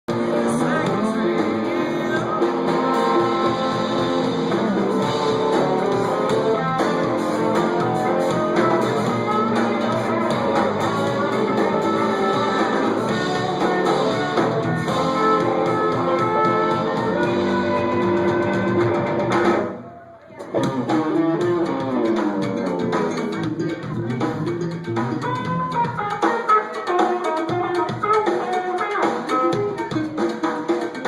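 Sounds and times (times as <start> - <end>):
guitar: 0.0 - 31.0
live band playing: 0.1 - 31.0.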